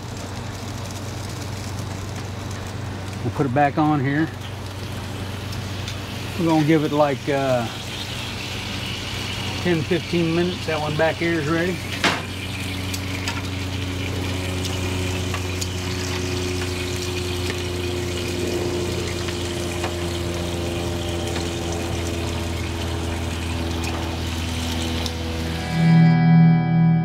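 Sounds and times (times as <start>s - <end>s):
faint crackles: 0.0s - 25.4s
electric motor hum: 0.0s - 27.0s.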